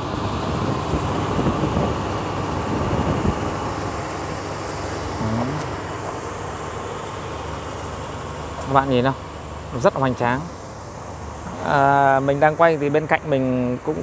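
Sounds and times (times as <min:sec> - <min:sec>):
motor vehicle running: 0:00.0 - 0:14.0.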